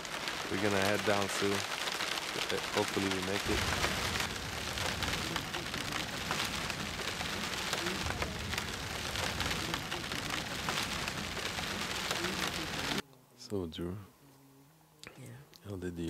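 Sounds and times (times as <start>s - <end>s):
rain pouring: 0.0s - 13.0s
raindrops hitting close by: 0.0s - 13.0s.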